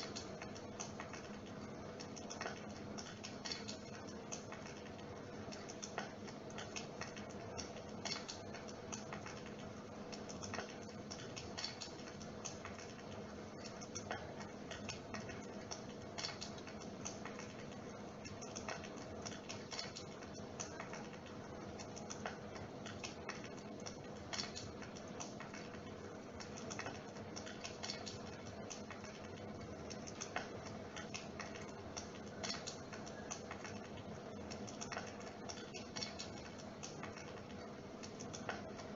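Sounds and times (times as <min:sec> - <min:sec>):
electric fire humming: 0:00.0 - 0:38.9
rapid crackling clicks: 0:00.0 - 0:38.9.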